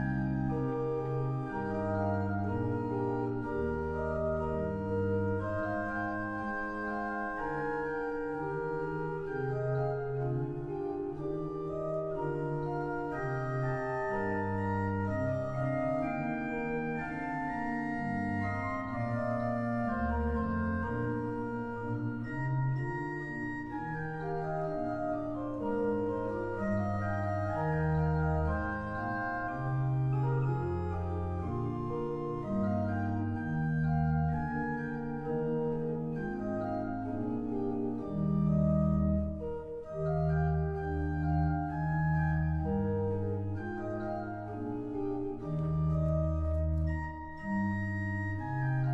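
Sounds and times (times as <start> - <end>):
church pipe organ playing: 0.0 - 48.9.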